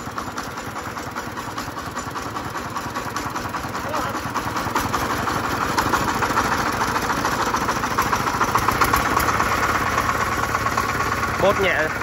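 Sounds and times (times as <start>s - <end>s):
diesel engine knocking: 0.0s - 12.0s.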